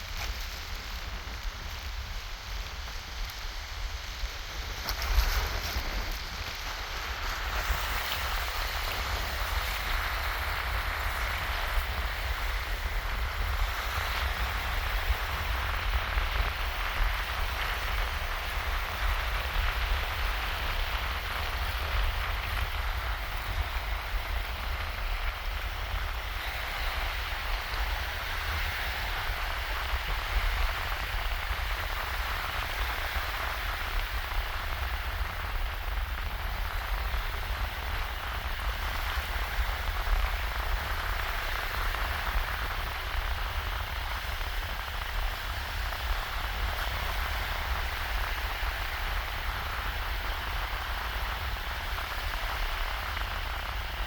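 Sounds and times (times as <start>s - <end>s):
waves washing over sand: 0.0s - 54.0s
wind rumble on microphone: 0.0s - 54.0s.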